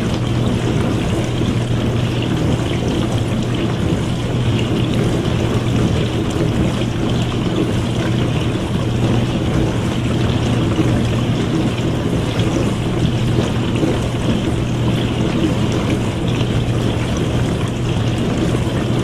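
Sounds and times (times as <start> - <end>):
dishwasher motor hum: 0.0 - 19.0
water spraying inside dishwasher: 0.0 - 19.0.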